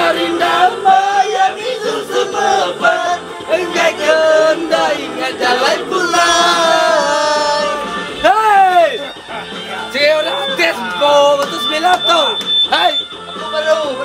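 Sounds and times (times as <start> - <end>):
musical accompaniment: 0.0 - 14.0.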